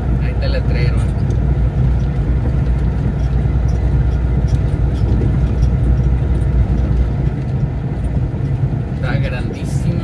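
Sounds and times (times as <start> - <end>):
truck engine and tyres rumbling: 0.0 - 10.0.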